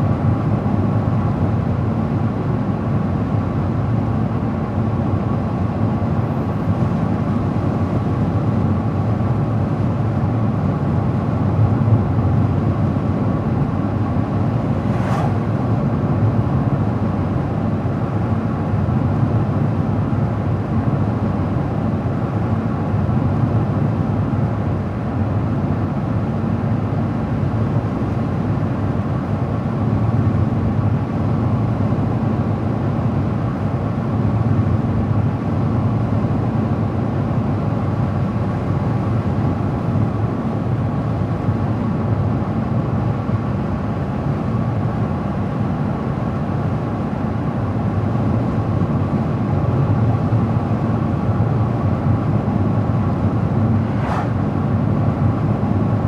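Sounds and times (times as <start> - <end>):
car tyres and engine drone: 0.0 - 56.0.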